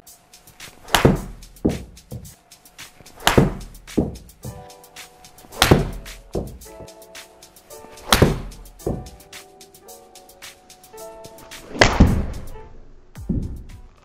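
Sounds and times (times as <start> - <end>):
music with hard drum beat: 0.0 - 11.4.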